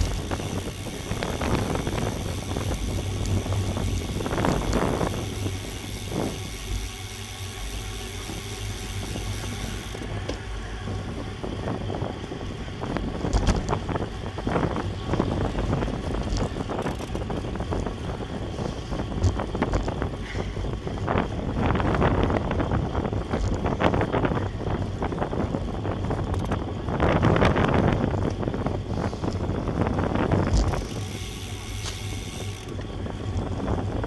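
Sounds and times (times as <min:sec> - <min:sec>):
road and tyre rumble: 0:00.0 - 0:34.0
wind rushing over microphone: 0:00.0 - 0:34.0.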